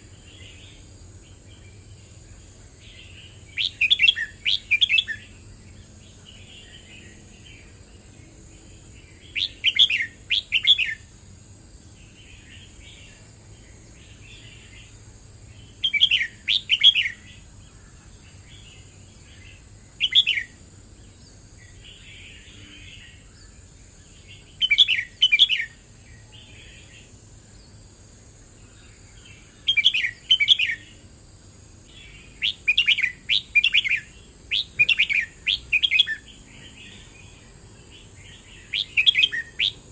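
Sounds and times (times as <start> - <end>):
bird singing warbled phrases: 0.0 - 11.2, 11.8 - 31.1, 31.8 - 39.9.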